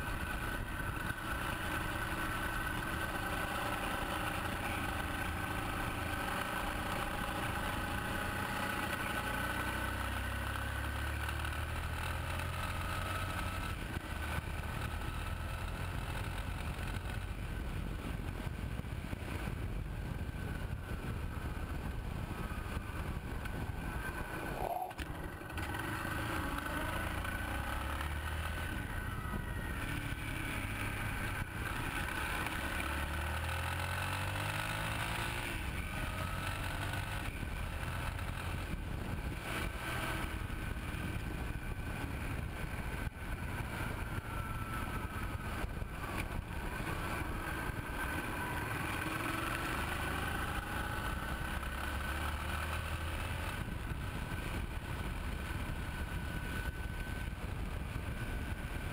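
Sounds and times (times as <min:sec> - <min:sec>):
motorcycle engine: 0:00.0 - 0:58.9
wind and road noise: 0:00.0 - 0:58.9.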